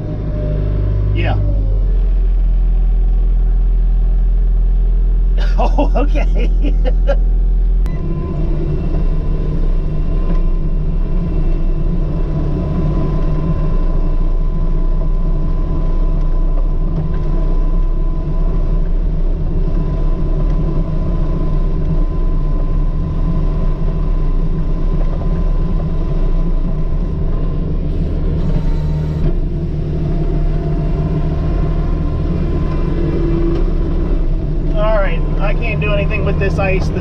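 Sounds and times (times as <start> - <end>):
diesel engine rumbling: 0.0 - 37.0.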